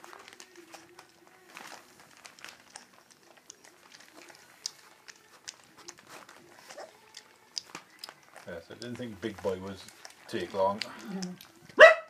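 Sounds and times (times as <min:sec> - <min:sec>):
puppy lapping milk: 0:00.4 - 0:11.8.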